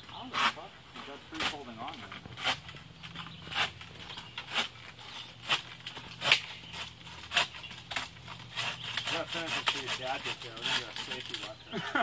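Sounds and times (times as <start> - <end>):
hand saw rasping through branch: 0.2 - 11.6.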